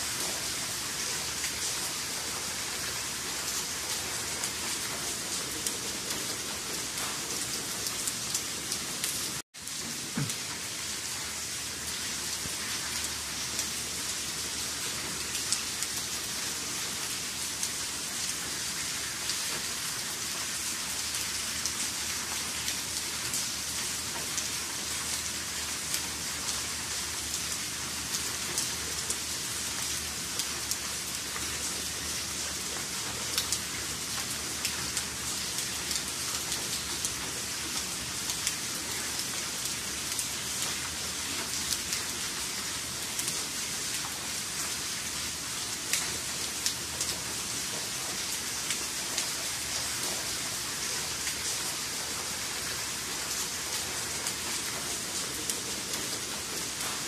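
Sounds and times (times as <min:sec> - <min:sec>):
rain on wet pavement: 0:00.0 - 0:57.0.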